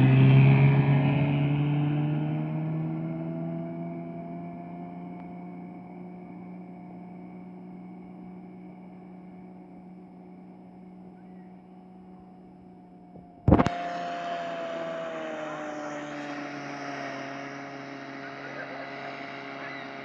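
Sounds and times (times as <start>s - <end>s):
speed boat engine running: 0.0s - 20.0s.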